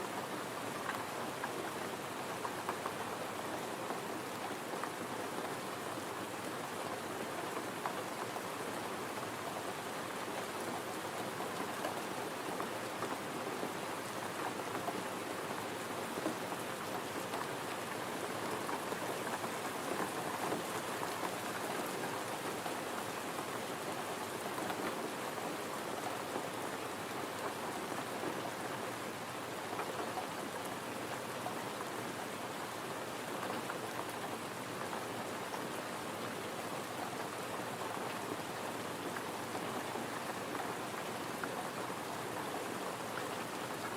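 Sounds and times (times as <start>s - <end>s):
gentle rain falling: 0.0s - 43.9s.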